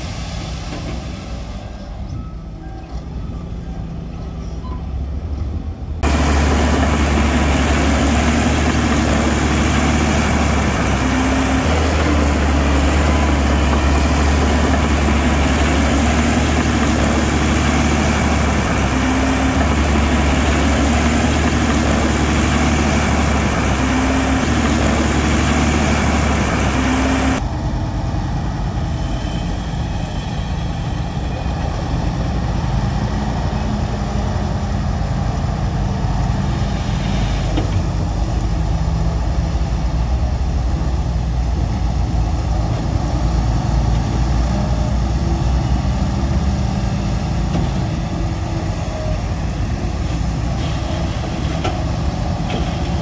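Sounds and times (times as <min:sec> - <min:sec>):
heavy diesel engine droning: 0:00.0 - 0:53.0
thinner engine sound: 0:06.0 - 0:53.0.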